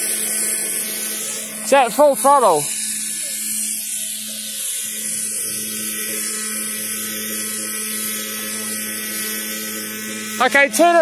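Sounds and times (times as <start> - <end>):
propeller motor buzzing: 0.0 - 11.0.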